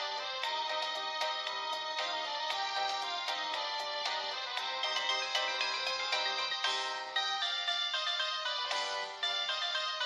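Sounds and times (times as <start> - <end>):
bright pop melody line: 0.0 - 10.0.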